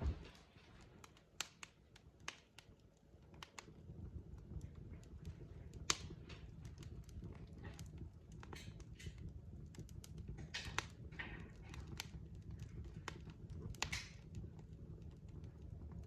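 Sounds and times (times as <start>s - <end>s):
fire crackling with pops: 0.0s - 16.0s.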